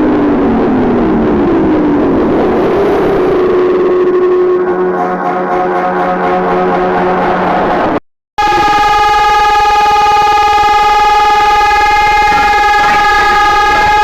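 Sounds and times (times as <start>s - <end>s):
higher brighter siren tone: 0.0s - 14.0s
warning siren steady tone: 0.0s - 14.0s.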